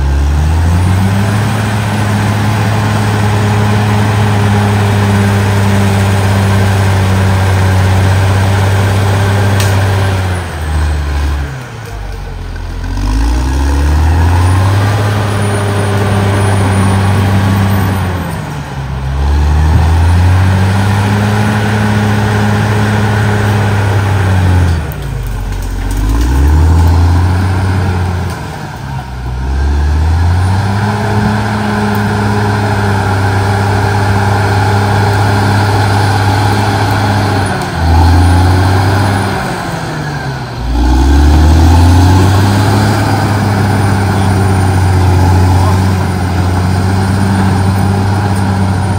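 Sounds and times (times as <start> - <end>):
bulldozer diesel engine working: 0.0 - 48.9.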